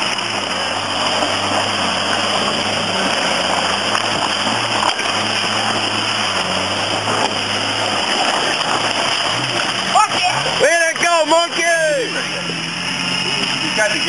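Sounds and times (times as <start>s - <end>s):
engine running at low revs: 0.0s - 14.0s.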